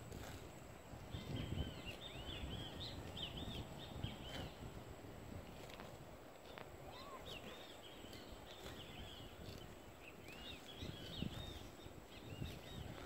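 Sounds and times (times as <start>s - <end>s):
small birds chirping: 0.2s - 4.8s, 5.7s - 13.0s.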